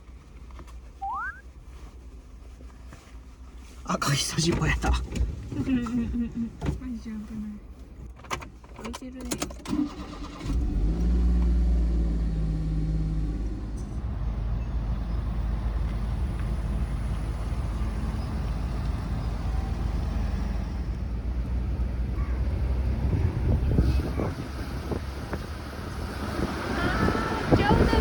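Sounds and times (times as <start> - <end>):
road noise rumble: 0.0 - 28.0
car engine hum: 3.4 - 8.8, 9.8 - 28.0.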